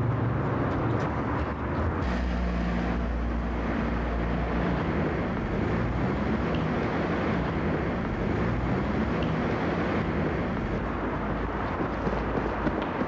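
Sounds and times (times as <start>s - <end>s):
car engine humming: 0.0s - 13.0s
street noise: 0.0s - 13.0s.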